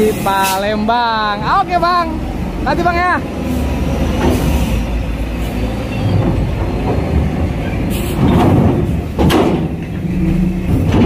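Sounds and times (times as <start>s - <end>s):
heavy truck engines running: 0.0s - 11.0s.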